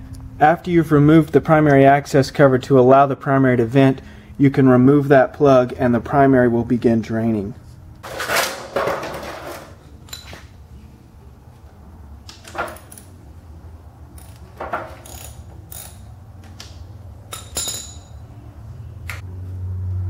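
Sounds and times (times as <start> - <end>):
steady low hum: 0.0 - 8.3, 9.3 - 20.0.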